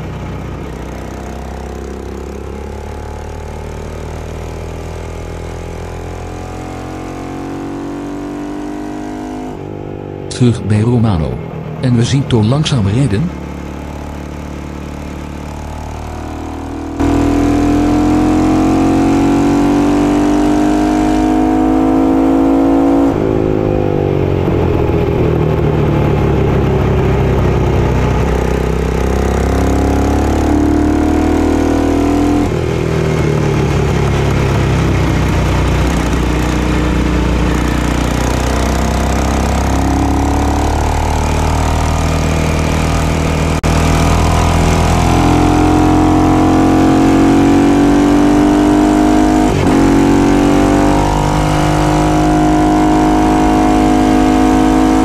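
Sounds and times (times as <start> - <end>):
motorcycle engine revving: 0.0 - 9.8, 13.3 - 55.0.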